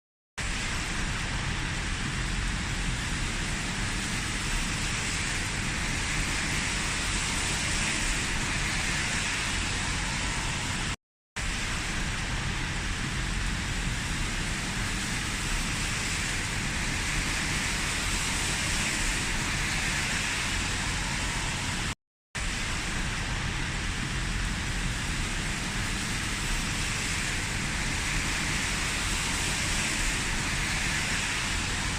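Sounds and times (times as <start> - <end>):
steady rushing noise: 0.4 - 31.9.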